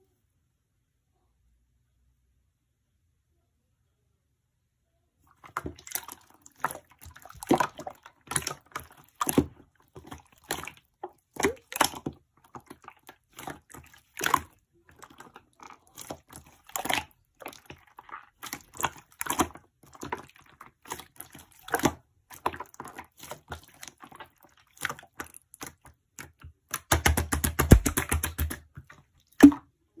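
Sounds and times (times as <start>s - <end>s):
slime squelching and clicking: 5.4s - 29.6s.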